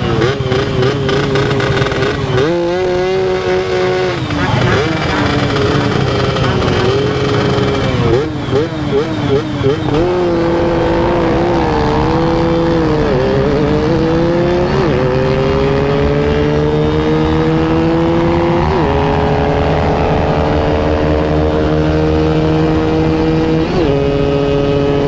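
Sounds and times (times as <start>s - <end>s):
motorcycle engine running hard: 0.0s - 25.0s.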